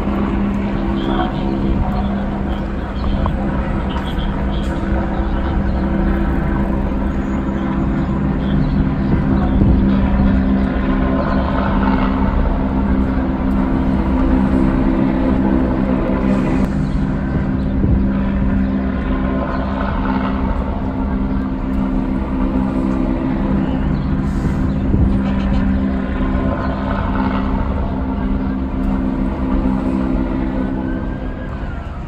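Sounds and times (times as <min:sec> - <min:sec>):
heavy engine droning: 0:00.0 - 0:32.0.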